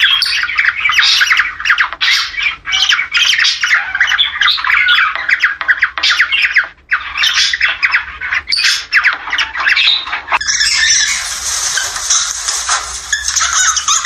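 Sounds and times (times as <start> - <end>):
cockatiels squawking and chirping: 0.0 - 14.0.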